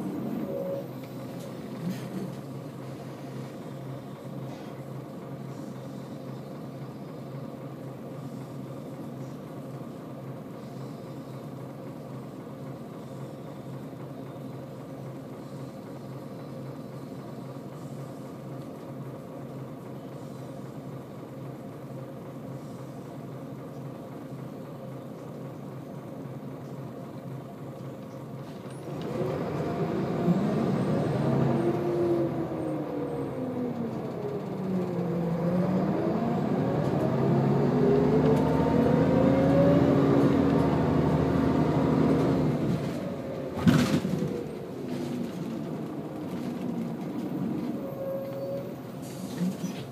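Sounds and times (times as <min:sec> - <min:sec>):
bus diesel engine: 0:00.0 - 0:49.9.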